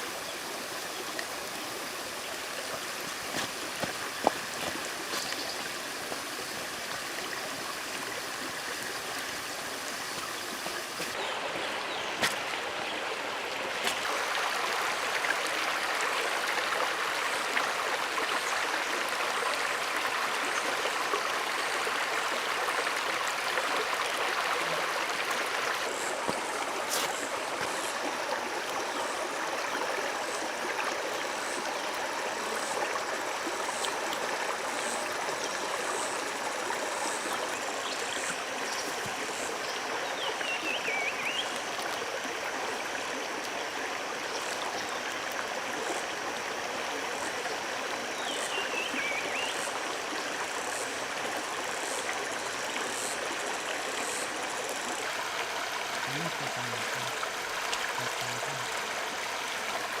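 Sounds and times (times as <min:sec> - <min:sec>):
running water: 0:00.0 - 1:00.0.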